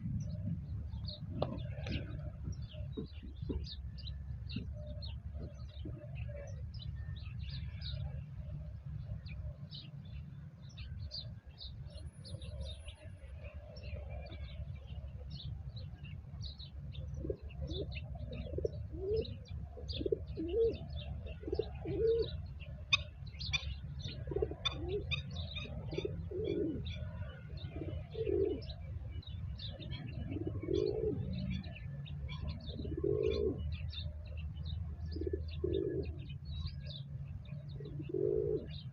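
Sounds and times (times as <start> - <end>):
doves cooing: 0.0 - 6.8, 10.8 - 38.9
songbirds chirping: 0.0 - 38.9.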